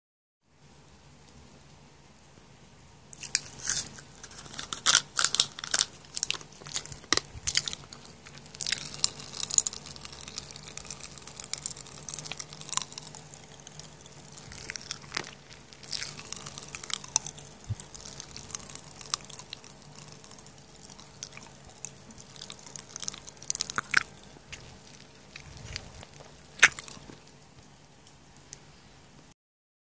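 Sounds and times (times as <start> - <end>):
crunchy snack being chewed: 3.1 - 28.2.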